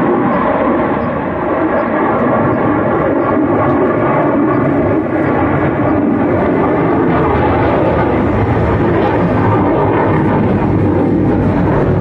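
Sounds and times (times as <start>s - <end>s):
military jet flying overhead: 0.0s - 12.0s.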